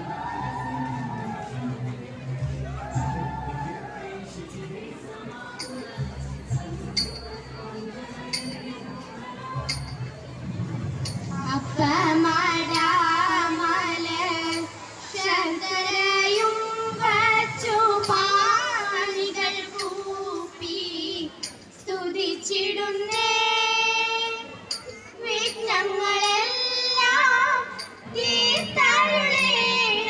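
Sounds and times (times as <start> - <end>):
girls singing together: 0.0 - 10.0, 11.1 - 30.0.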